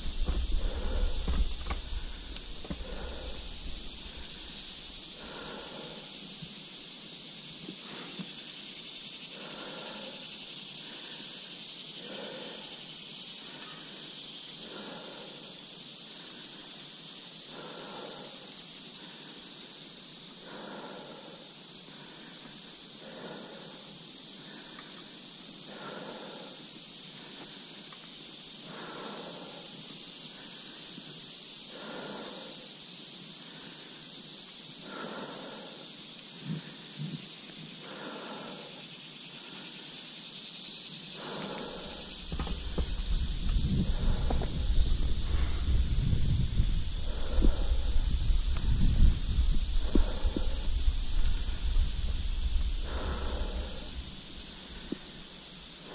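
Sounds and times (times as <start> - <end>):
high-pitched insect drone: 0.0 - 55.9.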